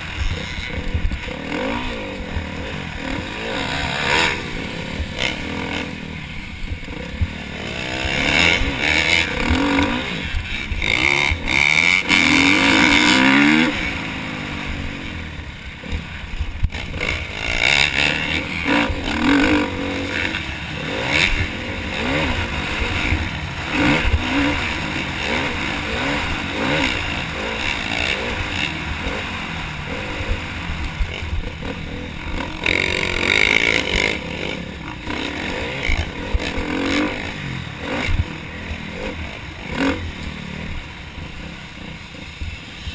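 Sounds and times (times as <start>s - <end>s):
motorcycle engine revving: 0.0s - 42.9s
wind hiss: 0.0s - 42.9s.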